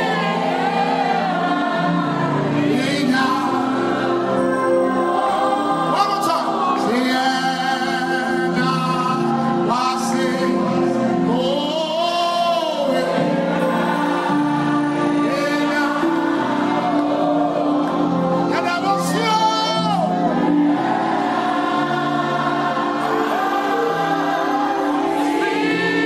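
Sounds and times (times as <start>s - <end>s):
band holding chords: 0.0s - 26.0s
voices singing together: 0.0s - 26.0s.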